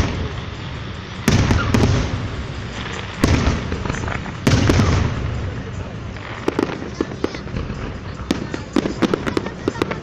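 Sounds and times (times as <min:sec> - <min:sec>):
firework shells bursting: 0:00.0 - 0:10.0.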